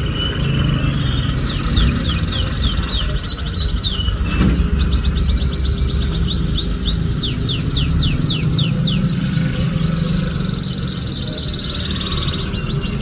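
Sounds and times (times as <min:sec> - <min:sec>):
canary singing: 0:00.0 - 0:13.0
steady low rumble: 0:01.1 - 0:13.0.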